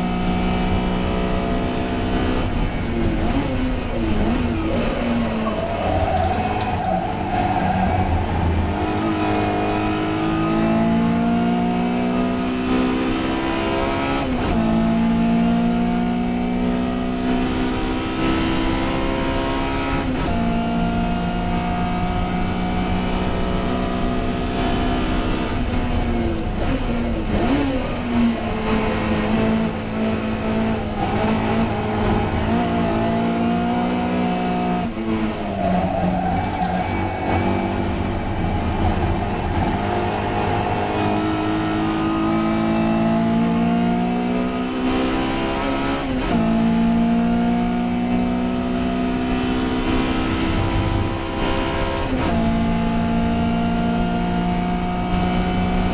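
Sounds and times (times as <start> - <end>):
racing car engine accelerating: 0.0 - 55.9.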